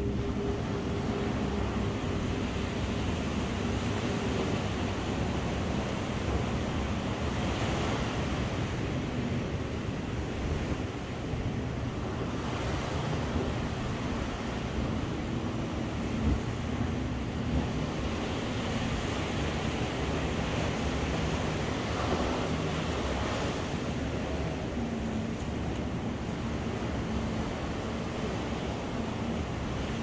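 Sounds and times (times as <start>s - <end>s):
ocean surf washing ashore: 0.0s - 30.0s
wind buffeting microphone: 0.0s - 30.0s.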